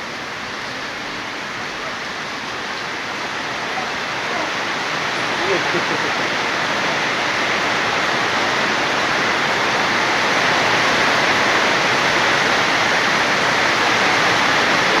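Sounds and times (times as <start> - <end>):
rain pouring: 0.0 - 15.0.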